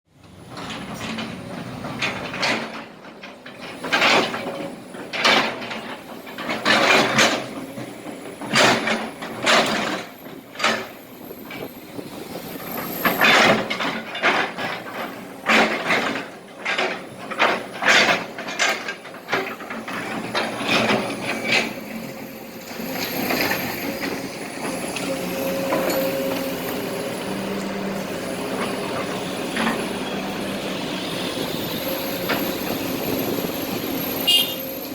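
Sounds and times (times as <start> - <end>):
excavator engine running: 0.2 - 34.9.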